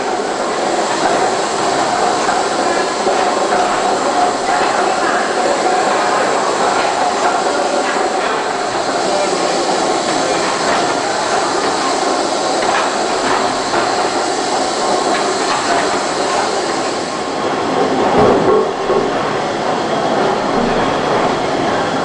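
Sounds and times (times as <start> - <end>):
steam engine mechanical clatter: 0.0 - 22.0.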